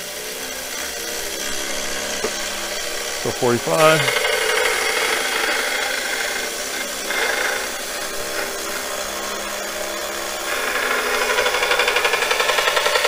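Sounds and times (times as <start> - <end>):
belt grinder running: 0.0 - 13.0
steel being ground on belt: 0.0 - 13.0.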